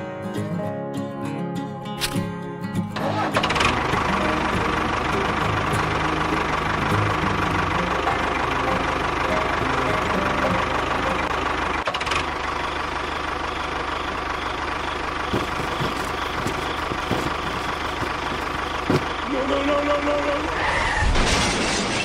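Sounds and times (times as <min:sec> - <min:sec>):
engine idling: 0:03.0 - 0:20.7.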